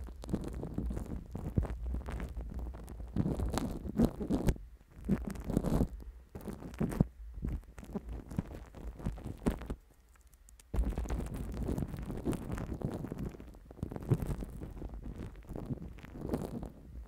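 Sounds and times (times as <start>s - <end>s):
crackly contact sounds on microphone: 0.0s - 17.0s
plastic wrap crinkling: 0.0s - 17.0s.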